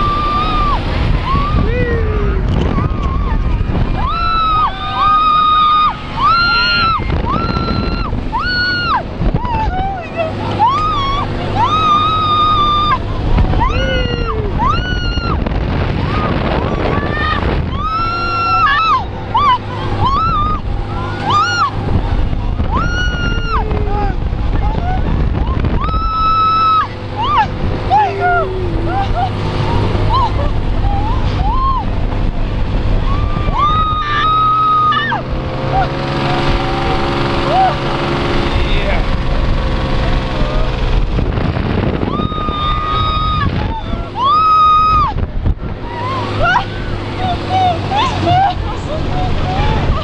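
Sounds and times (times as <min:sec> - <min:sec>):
riders screaming: 0:00.0 - 0:39.1, 0:41.6 - 0:50.0
wind on microphone: 0:00.0 - 0:50.0.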